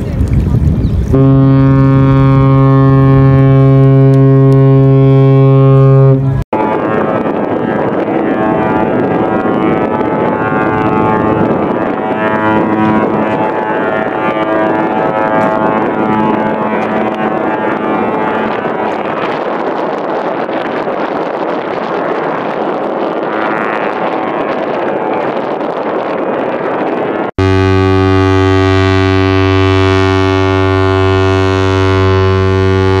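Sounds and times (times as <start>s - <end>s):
deep ship horn blast: 1.1s - 33.0s
ship horn sustained tones: 1.1s - 33.0s.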